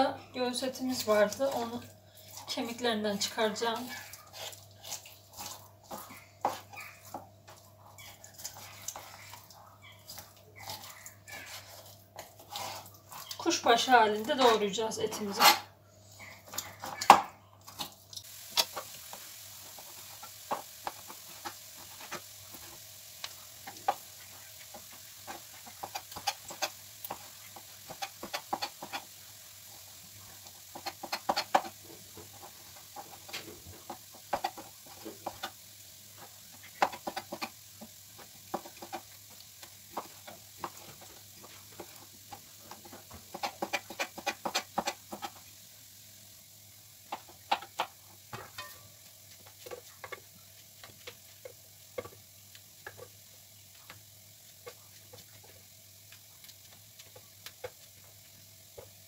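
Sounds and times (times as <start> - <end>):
onions sizzling in pan: 0.0 - 59.0.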